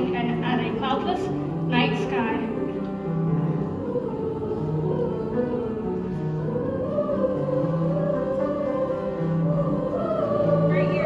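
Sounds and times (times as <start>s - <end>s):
choir singing harmonies: 0.0s - 11.0s.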